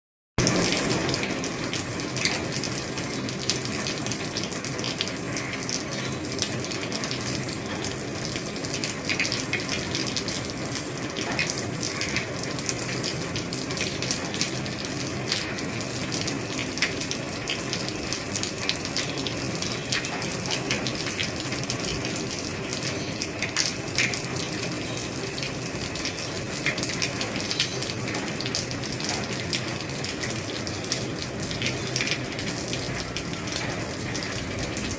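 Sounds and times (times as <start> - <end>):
rain hissing on a roof: 0.4 - 34.9
raindrops ticking: 0.4 - 34.9.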